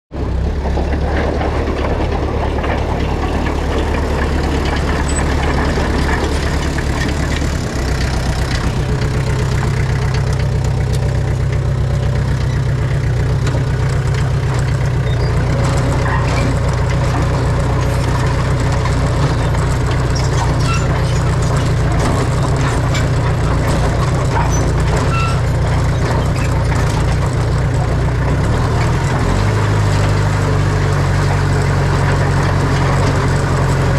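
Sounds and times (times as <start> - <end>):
diesel construction machinery running: 0.1 - 33.9.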